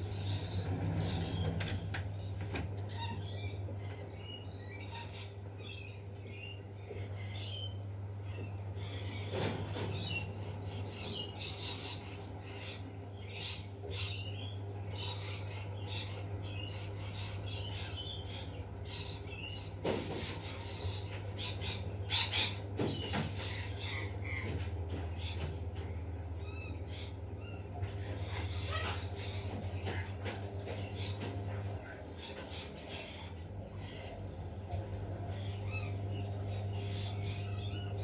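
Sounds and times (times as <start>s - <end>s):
birds chirping: 0.0s - 38.0s
steady low hum: 0.0s - 38.0s
harsh bird calls: 2.8s - 38.0s.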